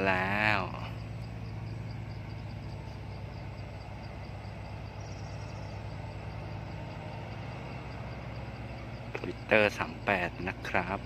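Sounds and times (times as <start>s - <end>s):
truck engine droning uphill: 0.0s - 11.0s.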